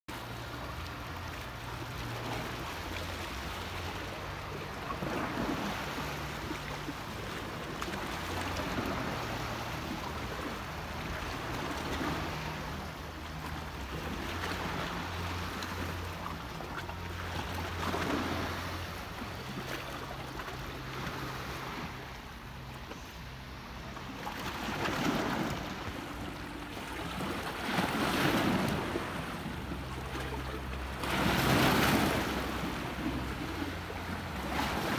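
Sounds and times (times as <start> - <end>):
low steady hum: 0.1 - 34.9
small waves washing ashore: 0.1 - 34.9.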